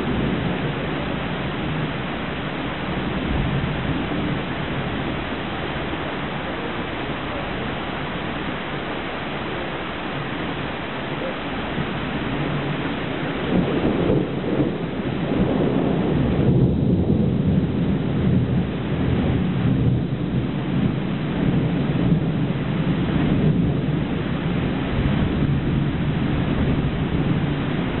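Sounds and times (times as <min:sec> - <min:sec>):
low rumble of thunder: 0:00.0 - 0:28.0
rain falling steadily: 0:00.0 - 0:28.0.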